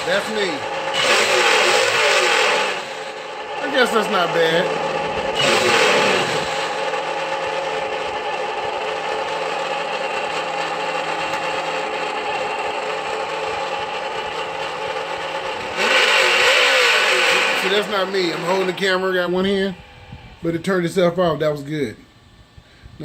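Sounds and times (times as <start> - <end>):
simulated engine idling from speaker: 0.0 - 2.4, 3.1 - 15.8, 17.1 - 22.0.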